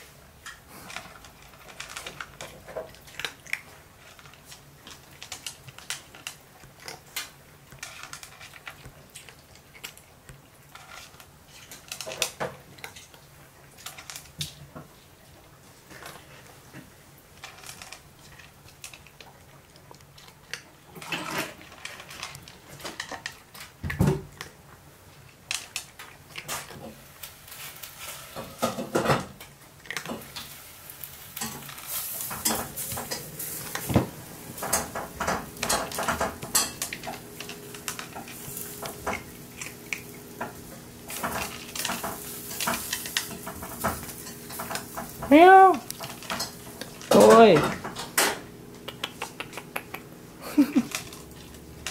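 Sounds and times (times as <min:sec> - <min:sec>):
cat crunching dry kibble: 0:00.0 - 0:28.4, 0:29.4 - 0:51.9.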